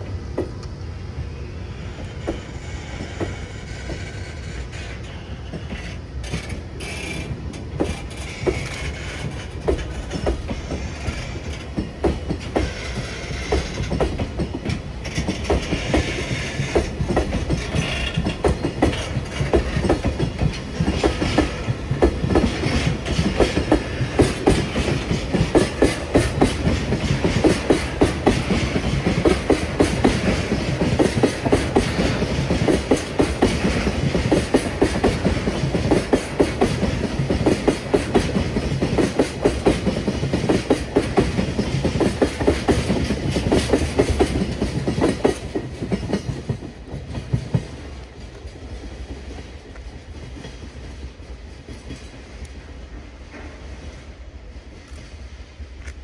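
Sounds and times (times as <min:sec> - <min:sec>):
freight train passing: 0:00.0 - 0:56.0
wheels clattering over rail joints: 0:02.2 - 0:49.4.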